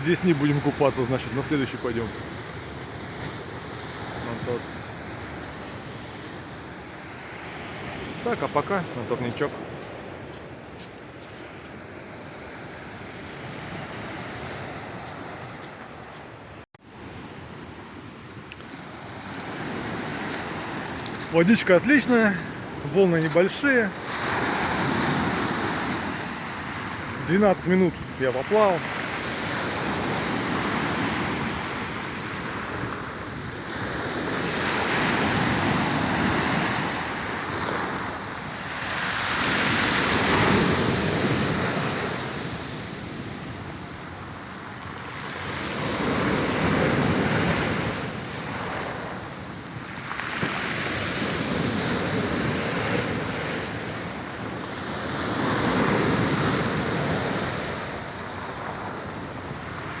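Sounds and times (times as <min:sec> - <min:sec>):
waves breaking on shore: 0:00.0 - 1:00.0.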